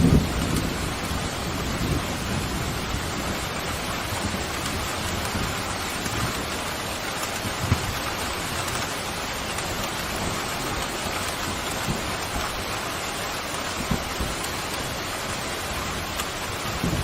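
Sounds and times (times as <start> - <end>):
pouring rain: 0.0 - 17.0
raindrop taps: 2.7 - 17.0.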